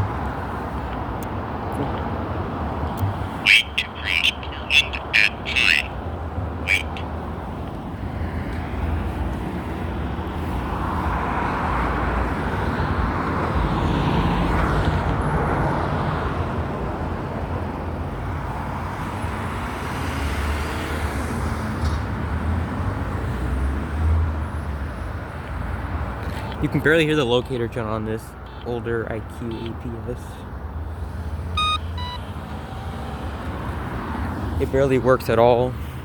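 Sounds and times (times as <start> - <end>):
low rumble of traffic: 0.0 - 36.0
car passing: 1.5 - 27.0, 30.2 - 36.0.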